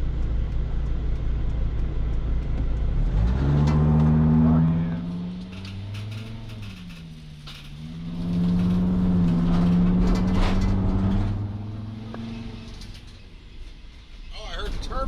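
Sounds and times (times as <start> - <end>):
diesel van engine running: 0.0 - 15.0.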